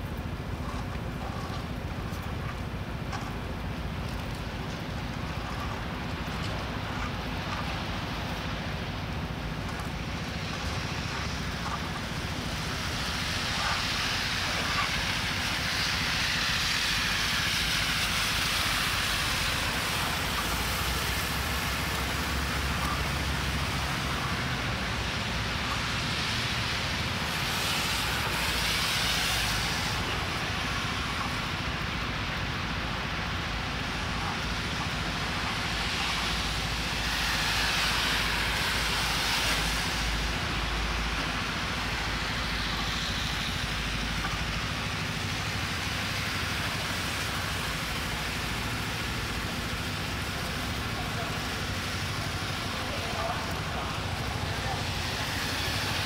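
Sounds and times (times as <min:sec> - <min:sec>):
traffic hiss on wet streets: 0:00.0 - 0:56.0.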